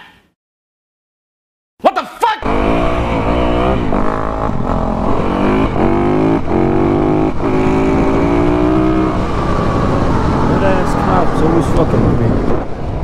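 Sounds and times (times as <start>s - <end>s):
dirt bike engine accelerating: 2.4s - 13.0s
wind rushing over microphone: 2.5s - 13.0s.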